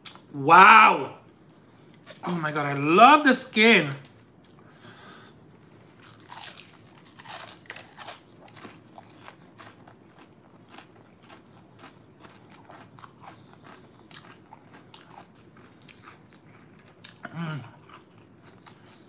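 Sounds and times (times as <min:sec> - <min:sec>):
chewing crunchy fried chicken: 0:01.3 - 0:02.9, 0:03.8 - 0:19.0.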